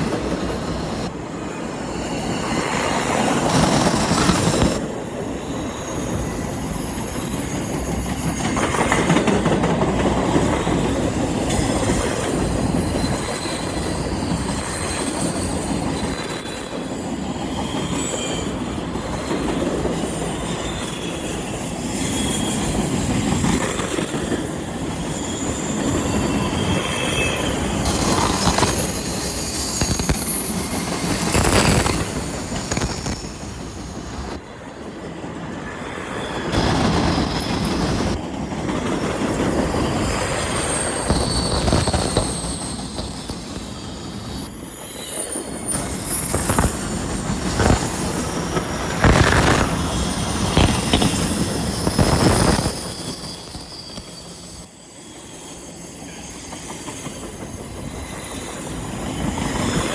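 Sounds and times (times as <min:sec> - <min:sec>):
high wheel squeal: 0:00.0 - 0:34.5, 0:35.4 - 0:38.2, 0:39.3 - 0:59.9
train wheels rumbling on rail: 0:00.0 - 0:59.9.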